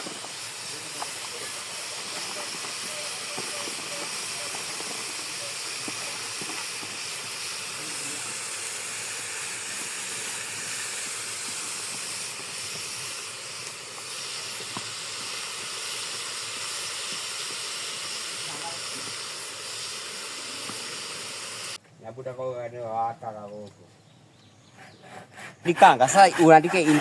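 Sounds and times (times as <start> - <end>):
faint crackles: 0.0 - 21.8
food hissing in a pot: 0.0 - 21.8.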